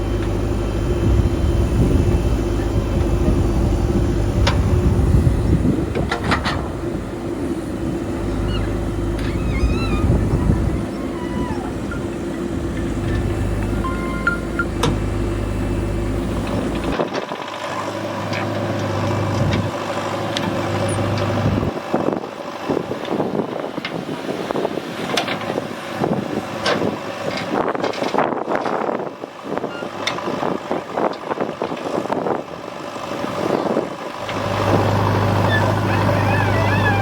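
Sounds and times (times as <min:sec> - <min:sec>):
diesel engine hum: 0:00.0 - 0:37.0.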